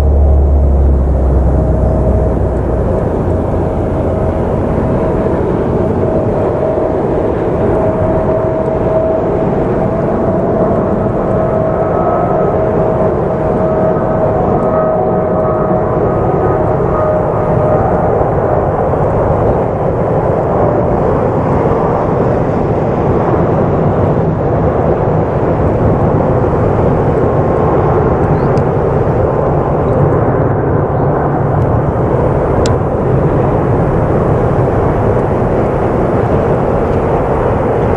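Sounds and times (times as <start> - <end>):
jet airliner taking off: 0.0 - 37.9.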